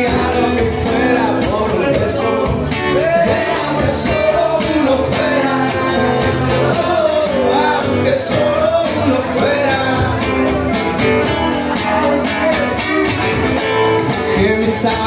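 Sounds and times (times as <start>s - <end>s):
acoustic guitar: 0.0s - 15.0s
man singing into a microphone: 0.0s - 15.0s.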